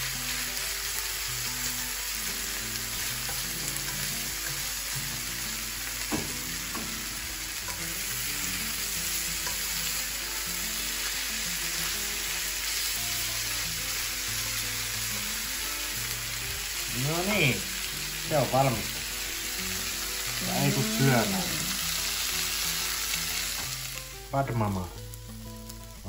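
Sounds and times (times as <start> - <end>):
noodles sizzling in frying pan: 0.0 - 26.0.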